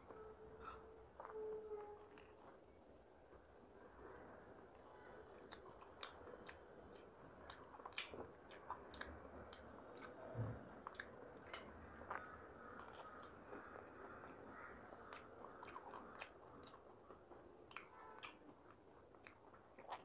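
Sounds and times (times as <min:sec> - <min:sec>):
close-mic chewing: 0:00.0 - 0:20.0.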